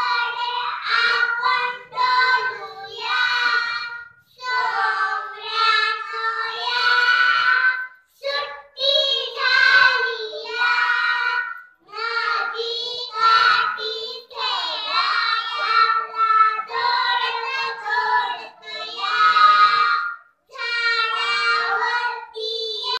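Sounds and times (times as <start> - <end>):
girls singing into a microphone: 0.0 - 23.0.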